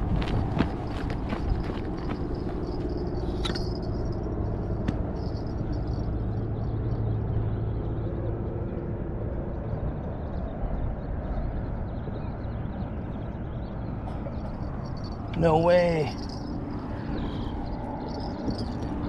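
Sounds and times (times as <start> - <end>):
passing vehicle drone: 0.0 - 19.0
traffic rumble overhead: 0.0 - 19.0.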